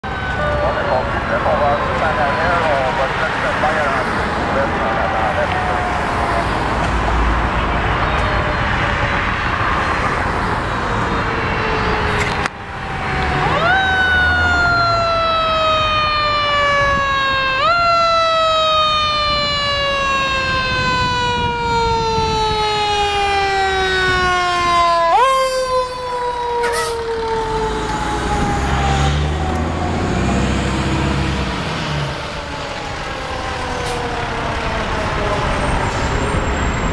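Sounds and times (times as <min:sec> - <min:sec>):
fire truck siren wailing: 0:00.0 - 0:36.9.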